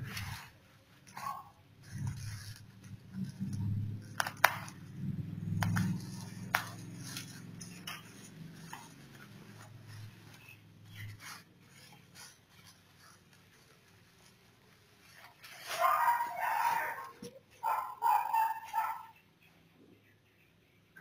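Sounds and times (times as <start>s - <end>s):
bubble wrap crinkling: 0.0s - 17.9s.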